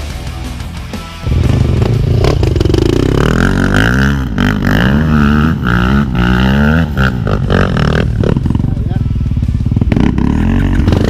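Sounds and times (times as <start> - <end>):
motorcycle engine revving: 1.2 - 11.0.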